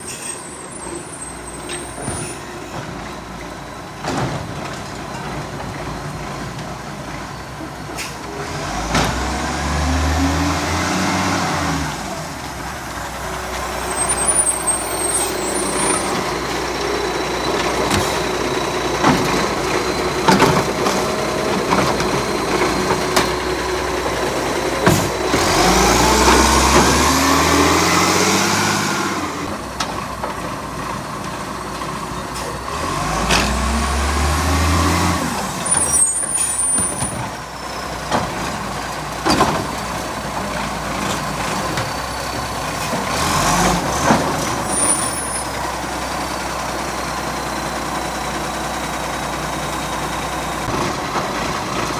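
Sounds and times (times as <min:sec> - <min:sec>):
garbage truck engine revving: 0:00.8 - 0:51.9.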